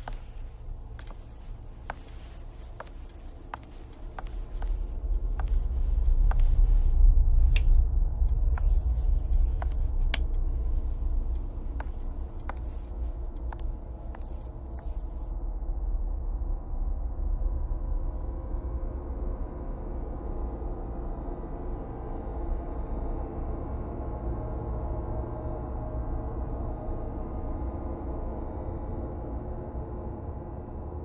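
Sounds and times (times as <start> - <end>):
low rumbling drone: 0.0 - 25.2.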